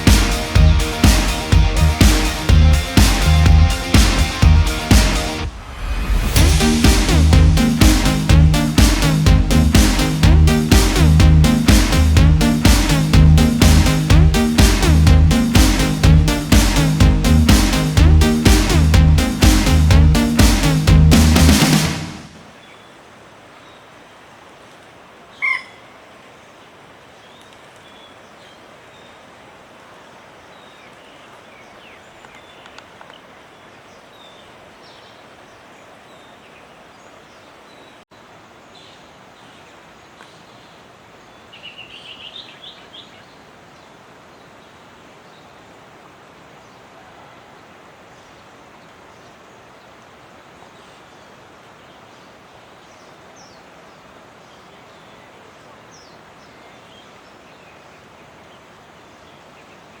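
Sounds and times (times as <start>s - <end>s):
outdoor background hiss: 0.0s - 60.0s.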